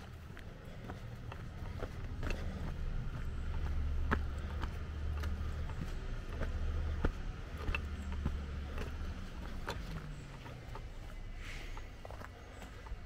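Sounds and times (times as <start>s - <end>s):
footsteps on twigs and leaves: 0.0s - 13.0s
low steady rumble: 0.0s - 13.0s.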